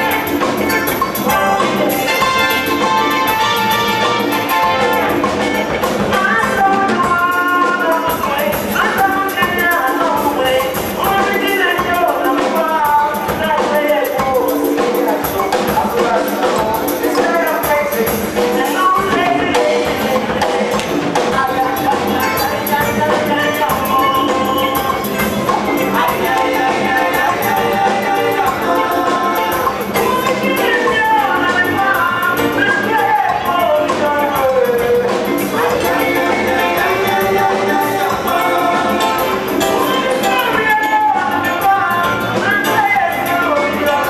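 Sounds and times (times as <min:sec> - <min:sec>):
drums and percussion: 0:00.0 - 0:44.0
melodic instruments playing: 0:00.0 - 0:44.0.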